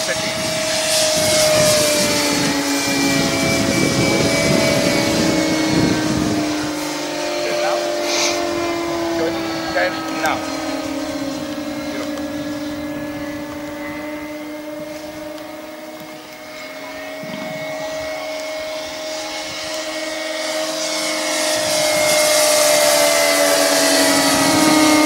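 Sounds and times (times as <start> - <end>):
model plane propellers whining: 0.0 - 25.0.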